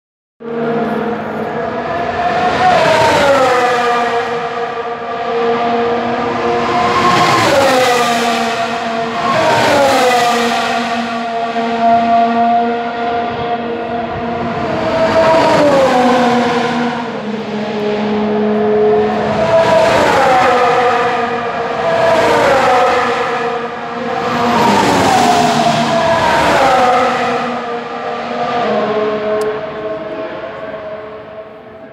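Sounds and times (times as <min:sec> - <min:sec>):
racing cars passing by: 0:00.4 - 0:31.9.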